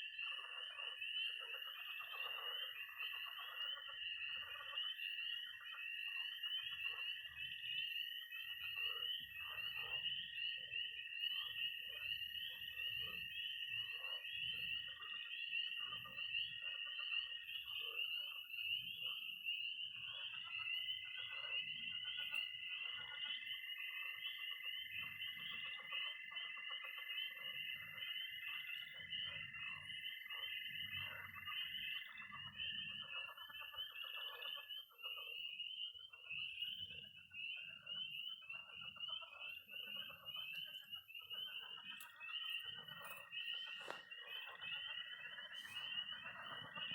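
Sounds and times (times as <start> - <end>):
high peeping of frogs: 0.0 - 46.9
long high toad trills: 0.0 - 46.9
lower frog croaks: 0.0 - 46.9.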